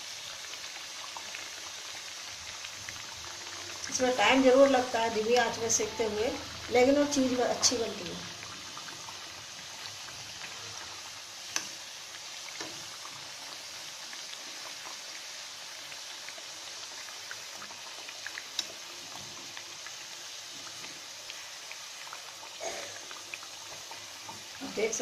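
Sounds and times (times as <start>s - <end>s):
dough sizzling in hot oil: 0.0s - 25.0s.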